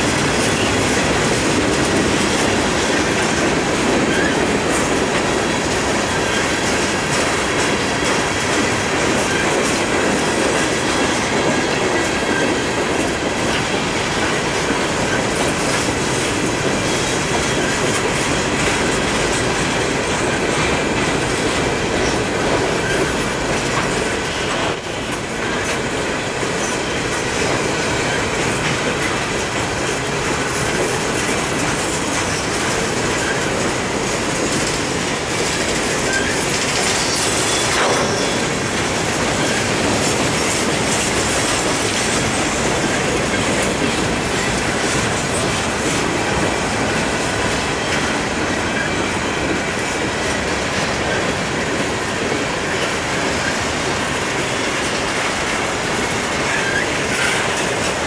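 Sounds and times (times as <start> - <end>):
freight cars clattering over rails: 0.0 - 58.0.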